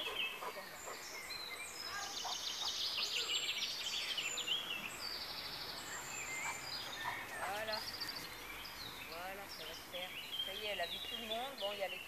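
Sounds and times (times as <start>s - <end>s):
songbirds trilling and chirping: 0.0s - 12.0s.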